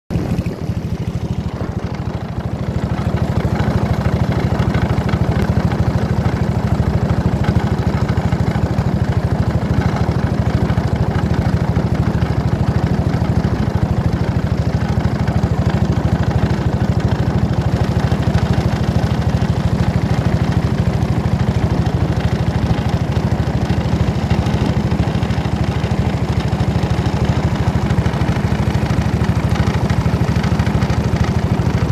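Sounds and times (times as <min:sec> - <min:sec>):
small engine running: 0:00.1 - 0:31.9.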